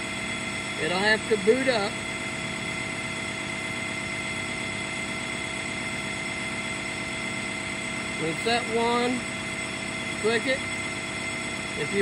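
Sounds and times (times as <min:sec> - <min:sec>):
steady machinery hum: 0:00.0 - 0:12.0.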